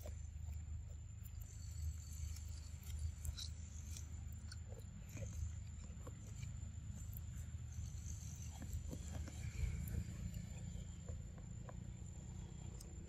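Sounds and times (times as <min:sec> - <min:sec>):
low steady rumble: 0:00.0 - 0:13.0
monkeys chewing corn: 0:00.0 - 0:13.0.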